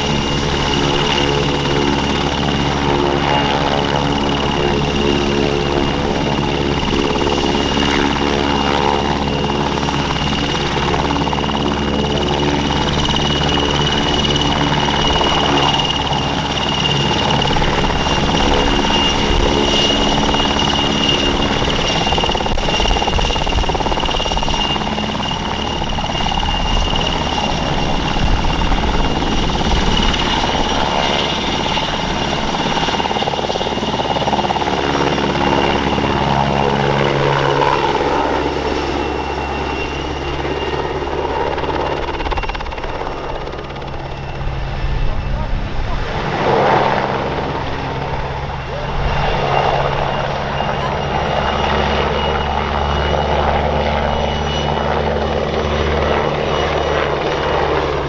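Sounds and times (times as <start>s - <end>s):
helicopter rotor noise: 0.0s - 58.0s
helicopter turbine whine: 0.0s - 58.0s.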